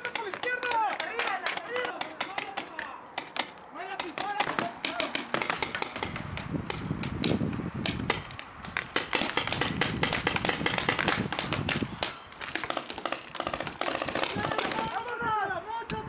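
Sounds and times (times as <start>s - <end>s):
paintball markers firing: 0.0s - 15.2s.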